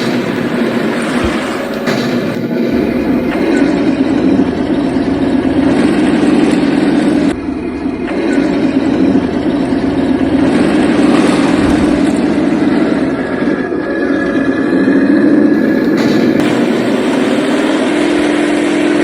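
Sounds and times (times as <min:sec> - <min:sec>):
tank engine drone: 0:00.0 - 0:19.0.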